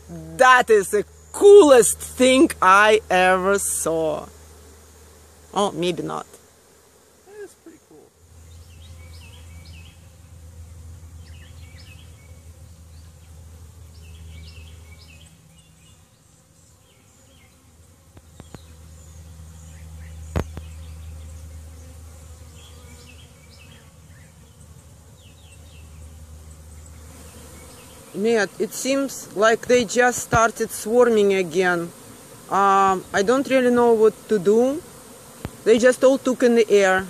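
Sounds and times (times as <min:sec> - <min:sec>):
bee swarm buzzing: 0:00.0 - 0:37.0.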